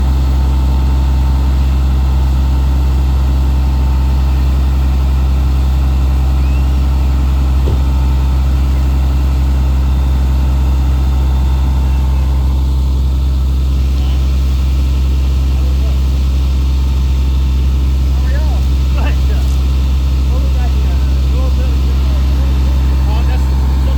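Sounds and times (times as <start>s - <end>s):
fire engine droning: 0.0s - 23.9s.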